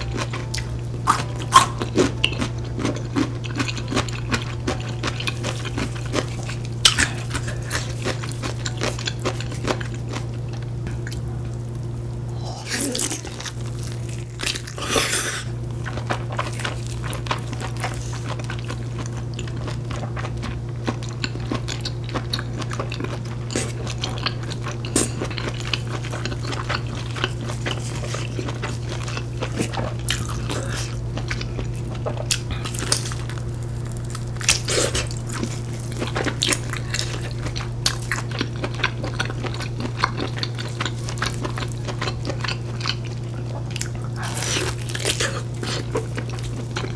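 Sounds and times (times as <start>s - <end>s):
low hum: 0.0s - 46.9s
person chewing: 0.0s - 46.9s.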